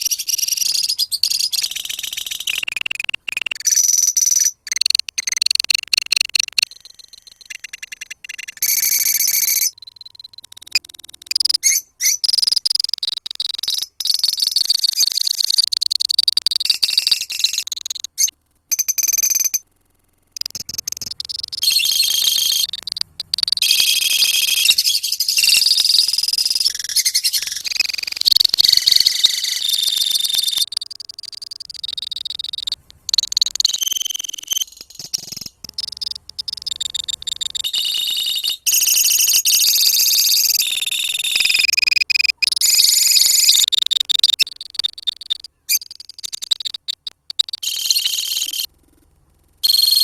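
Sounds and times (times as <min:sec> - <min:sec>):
lovebirds chirping and chattering: 0:00.0 - 0:18.3, 0:20.4 - 0:38.8, 0:43.6 - 0:48.6.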